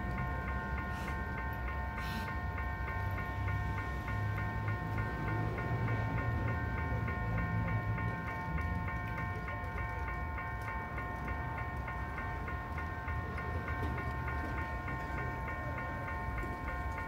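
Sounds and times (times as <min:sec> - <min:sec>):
crossing warning bell ringing: 0:00.0 - 0:17.0.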